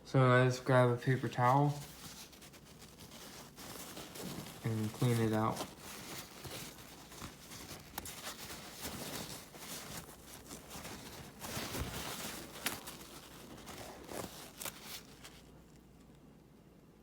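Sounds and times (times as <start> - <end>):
paper towel rustling and rubbing: 0.5 - 15.8.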